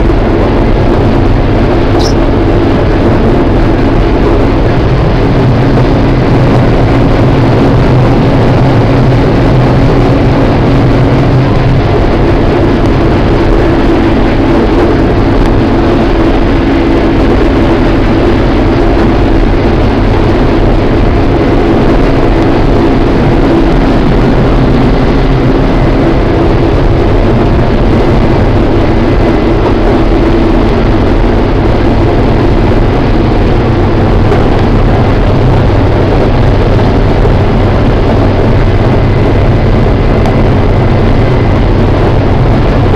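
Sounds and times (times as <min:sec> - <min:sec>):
diesel engine drone: 0:00.0 - 0:42.9.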